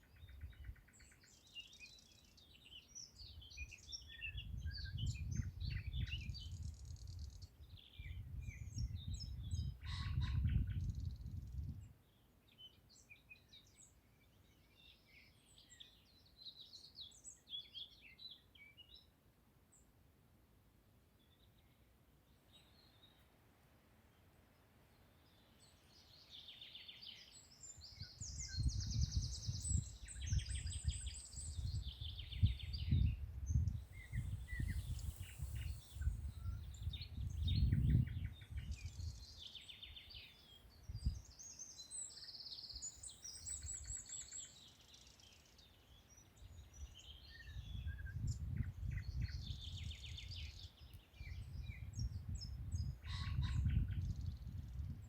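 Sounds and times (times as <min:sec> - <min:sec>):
birds singing and chirping: 0:00.1 - 0:19.0, 0:25.2 - 0:55.0.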